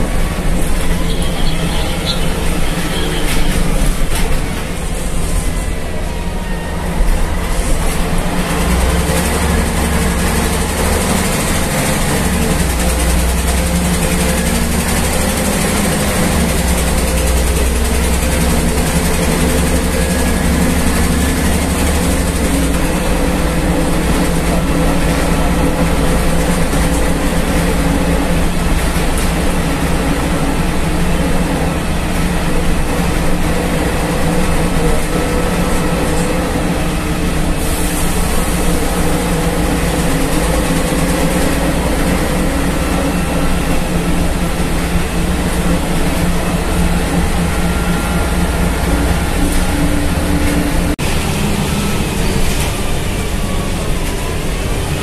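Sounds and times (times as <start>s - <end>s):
bus engine drone: 0.0s - 55.0s
bus running noise: 0.0s - 55.0s.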